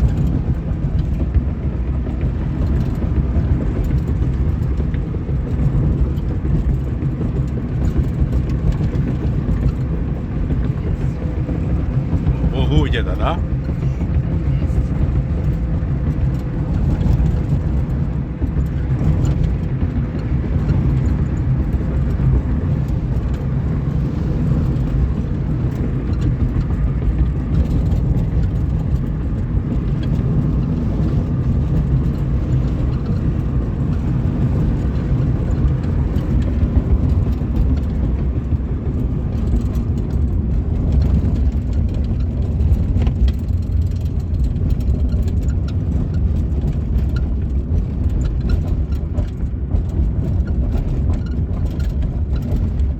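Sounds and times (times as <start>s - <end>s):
car cabin road and engine noise: 0.0s - 52.9s.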